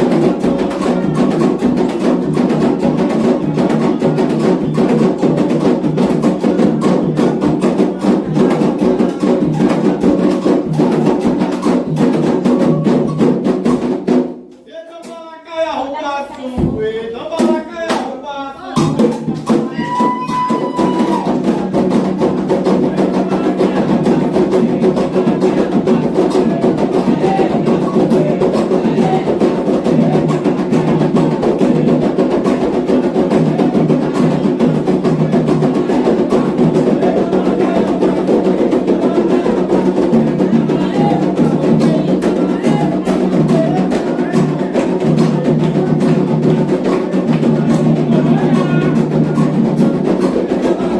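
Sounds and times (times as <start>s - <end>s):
hand drums playing fast rhythm: 0.0s - 14.5s, 16.5s - 50.9s.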